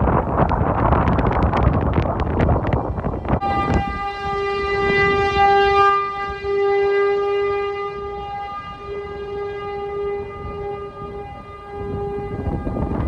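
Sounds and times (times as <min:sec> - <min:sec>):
tornado warning siren: 0:00.0 - 0:13.0.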